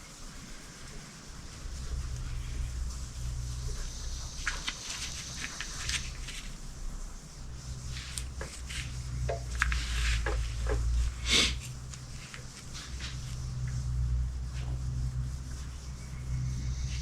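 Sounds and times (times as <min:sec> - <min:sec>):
steady low hum: 0:00.0 - 0:17.0
short rustle: 0:00.2 - 0:17.0.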